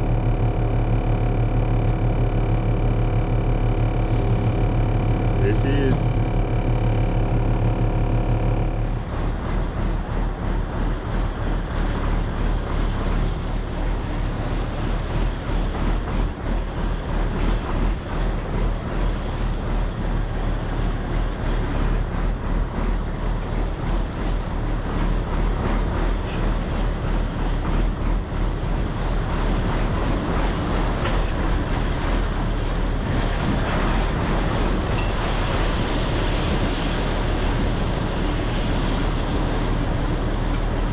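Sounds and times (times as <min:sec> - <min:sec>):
farm vehicle engine rumbling: 0:00.0 - 0:40.9.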